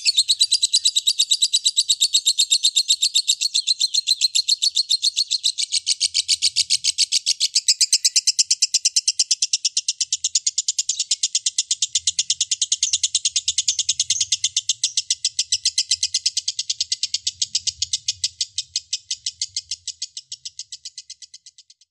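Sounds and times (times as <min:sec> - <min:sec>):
lovebird chattering trill: 0:00.0 - 0:21.8.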